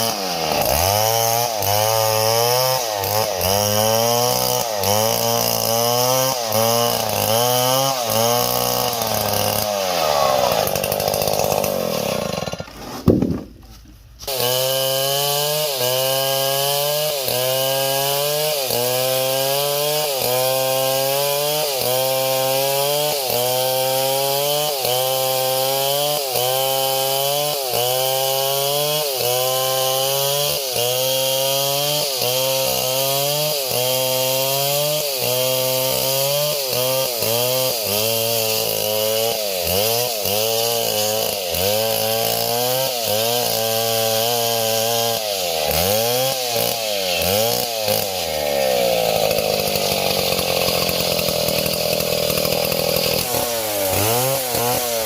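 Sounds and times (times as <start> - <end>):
small chainsaw engine running: 0.0 - 13.4, 14.2 - 55.0.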